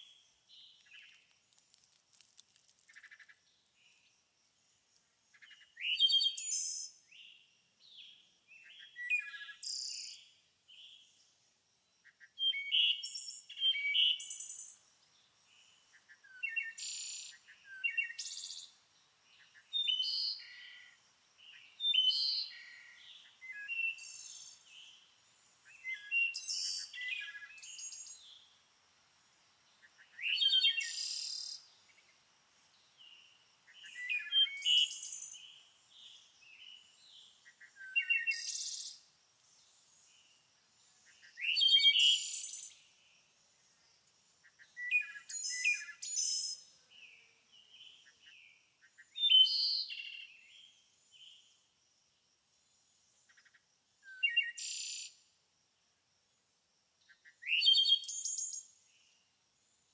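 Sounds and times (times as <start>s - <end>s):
songbirds singing: 0.0s - 55.4s, 57.0s - 59.9s
faint steady hiss: 0.0s - 59.9s.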